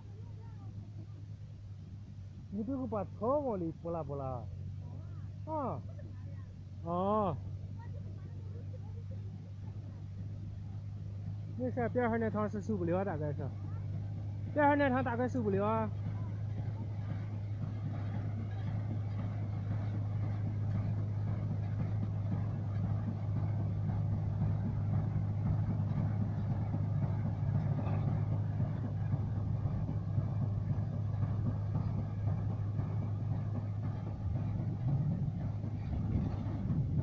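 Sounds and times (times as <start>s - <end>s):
tractor engine under load: 0.0s - 37.0s
hay baler working: 6.6s - 37.0s.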